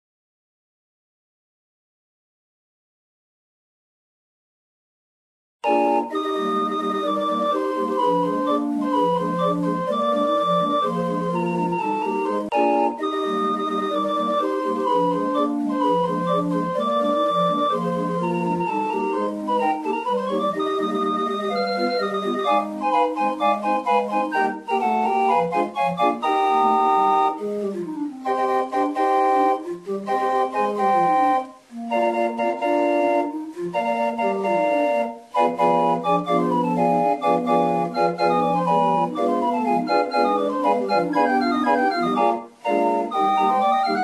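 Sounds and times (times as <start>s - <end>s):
organ music: 5.6s - 44.0s.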